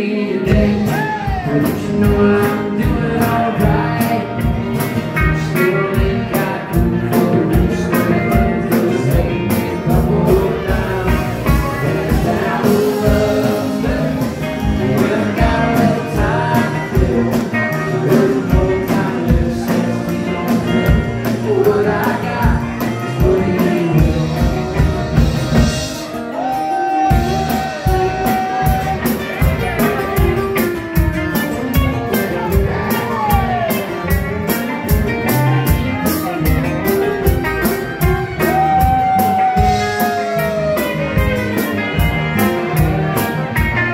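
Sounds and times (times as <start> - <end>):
man singing: 0.0 - 25.8, 26.4 - 43.9
drum kit steady beat: 0.4 - 43.9.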